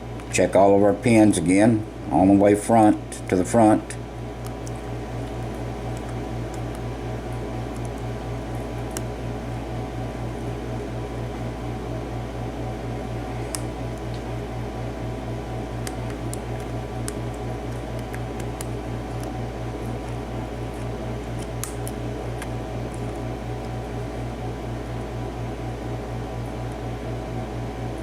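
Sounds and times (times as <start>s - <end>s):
fan hum with low throb: 0.0s - 28.0s.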